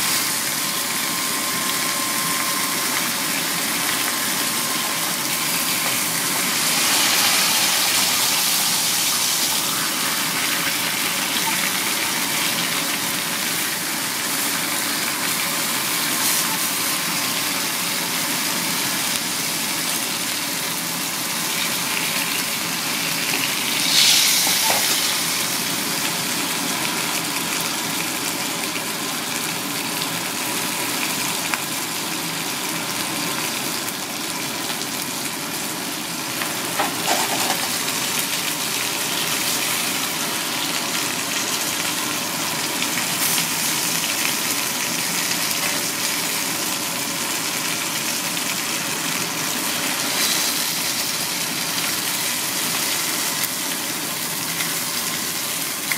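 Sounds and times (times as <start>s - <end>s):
fish sizzling in a pan: 0.0s - 55.9s.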